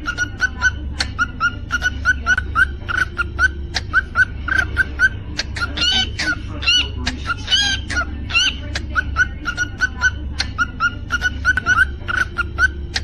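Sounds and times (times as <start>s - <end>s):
cockatiel chirping: 0.0s - 13.0s
cockatiel whistled calls: 0.0s - 13.0s.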